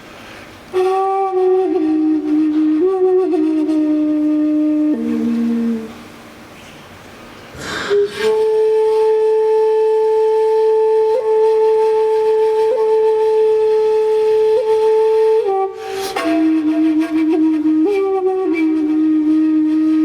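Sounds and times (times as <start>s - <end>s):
woodwind instrument long note: 0.7s - 6.5s, 7.6s - 20.0s.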